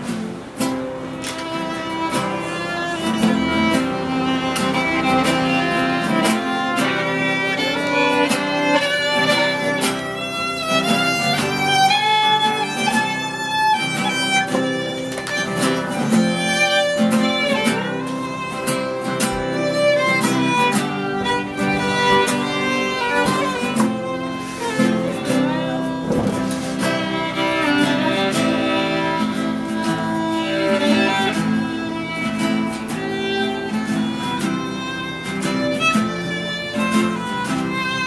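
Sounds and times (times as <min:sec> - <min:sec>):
acoustic guitars strumming: 0:00.0 - 0:38.0
fiddle playing melody: 0:00.0 - 0:38.0.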